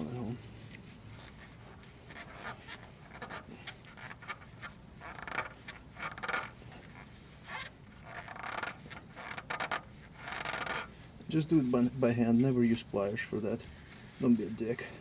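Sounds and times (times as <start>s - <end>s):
metal oil filter scraping: 0.0s - 15.0s.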